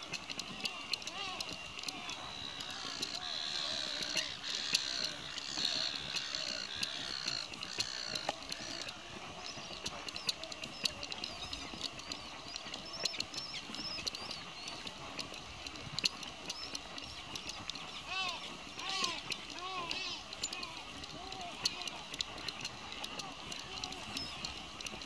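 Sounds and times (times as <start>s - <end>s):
gulls calling: 0.0s - 25.0s
sharp clicks: 0.0s - 25.0s.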